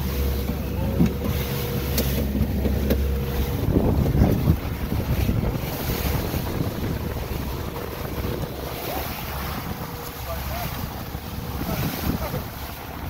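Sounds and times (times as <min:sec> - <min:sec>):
boat engine running: 0:00.0 - 0:13.0
boat wake rushing: 0:00.0 - 0:13.0
wind buffeting microphone: 0:00.0 - 0:13.0.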